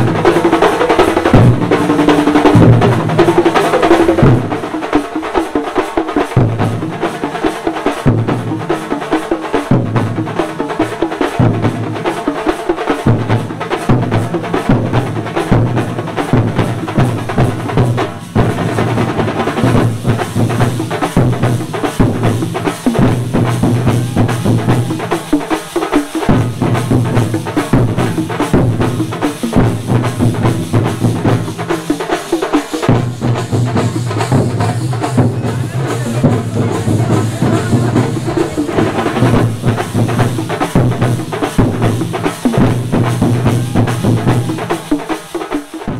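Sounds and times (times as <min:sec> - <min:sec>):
drum ensemble playing fast rhythm: 0:00.0 - 0:45.9.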